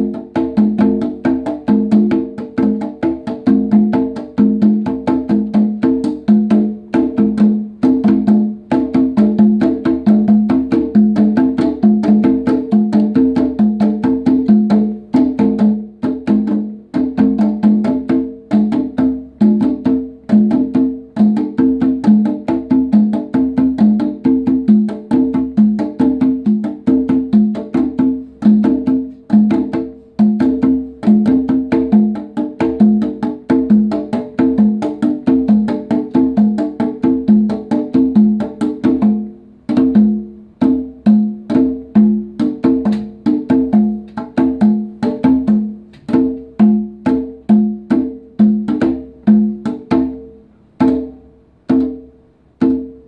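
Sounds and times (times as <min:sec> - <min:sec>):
conga drums played by hand: 0:00.0 - 0:53.0.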